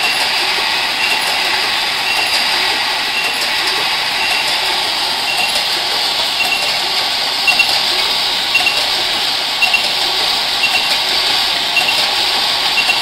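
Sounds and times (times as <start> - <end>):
machine hiss: 0.0 - 13.0.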